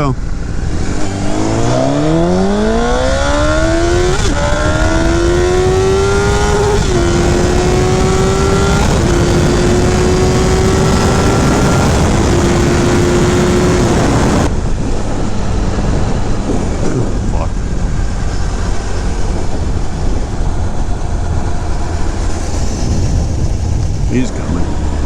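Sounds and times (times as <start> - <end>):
motorbike engine accelerating: 0.0 - 25.0
wind rush: 0.0 - 25.0.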